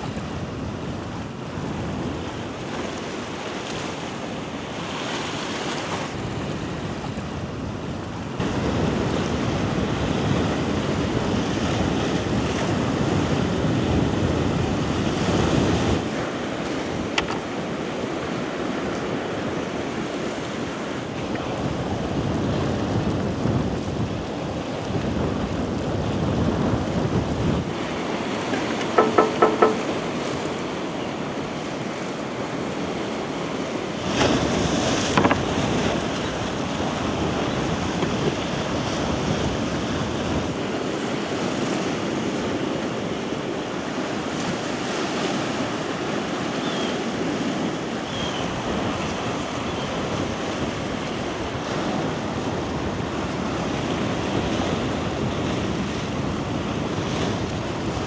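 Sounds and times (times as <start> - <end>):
waves washing ashore: 0.0 - 58.0
wind: 0.0 - 58.0.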